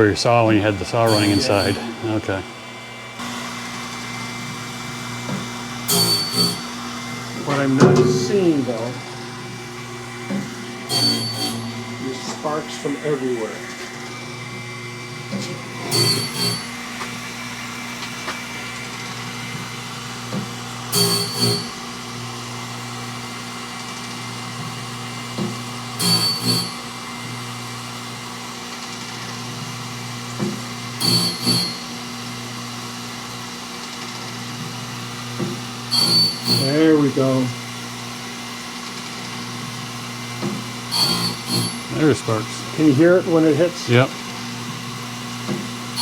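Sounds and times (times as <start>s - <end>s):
blade sharpener motor hum: 1.0s - 46.0s.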